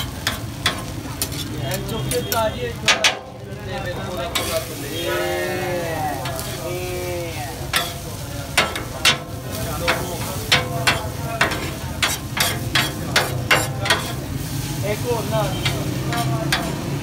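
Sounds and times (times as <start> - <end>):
food sizzling: 0.0 - 17.0.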